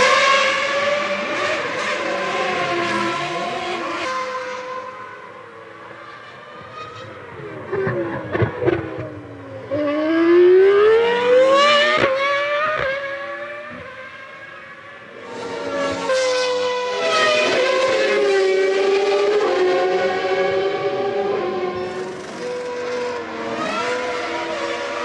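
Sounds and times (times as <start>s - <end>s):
race car engines at high revs: 0.0s - 25.0s.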